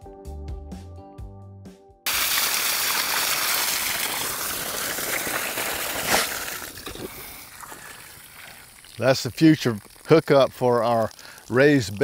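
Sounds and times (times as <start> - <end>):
water rushing from pipe: 2.1 - 12.0.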